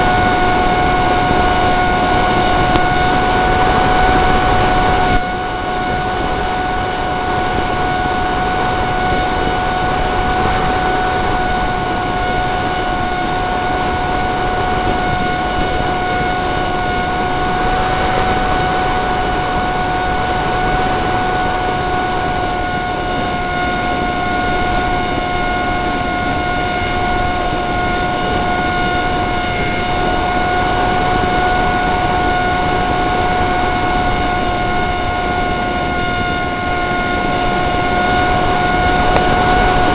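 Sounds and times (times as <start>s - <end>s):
electric motor and propeller whining: 0.0s - 39.9s
wind buffeting microphone: 0.0s - 39.9s.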